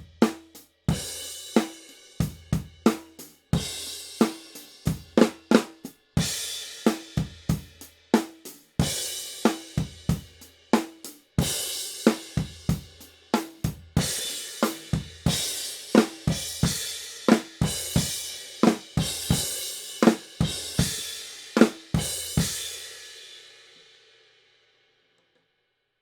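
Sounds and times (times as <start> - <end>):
drum kit beat: 0.0 - 23.2.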